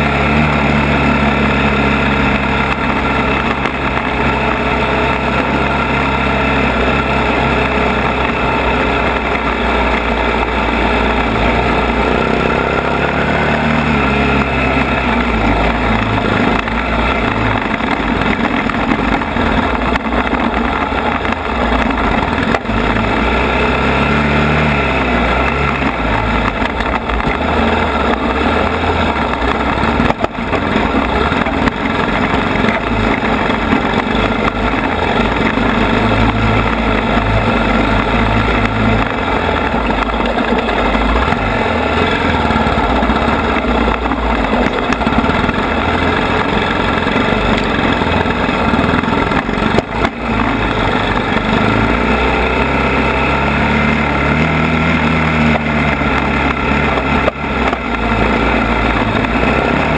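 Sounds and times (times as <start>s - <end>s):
quad engine running: 0.0s - 59.9s.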